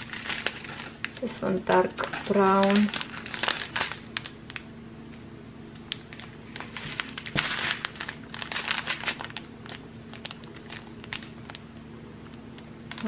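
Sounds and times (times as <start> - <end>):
plastic bags crinkling: 0.0 - 4.7, 5.8 - 11.6, 12.3 - 13.0
faint steady hum: 0.0 - 13.0.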